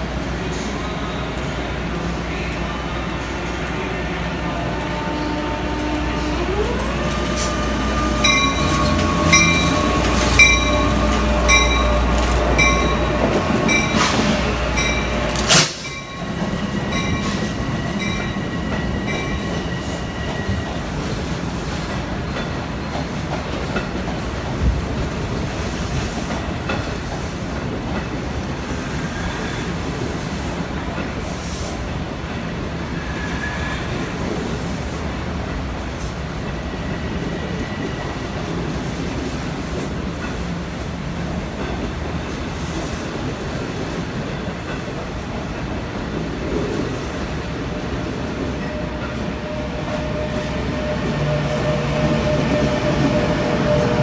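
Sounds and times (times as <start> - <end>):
passing train rumble: 0.0 - 54.0.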